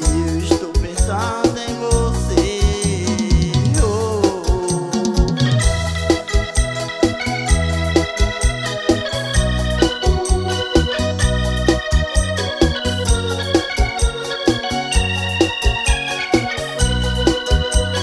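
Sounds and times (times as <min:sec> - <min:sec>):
electronic keyboard organ melody: 0:00.0 - 0:18.0
programmed beat and bass: 0:00.0 - 0:18.0.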